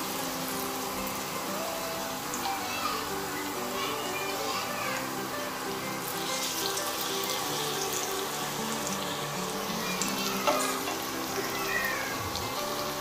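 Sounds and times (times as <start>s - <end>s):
background music: 0.0s - 13.0s
bread frying in hot oil: 0.0s - 13.0s.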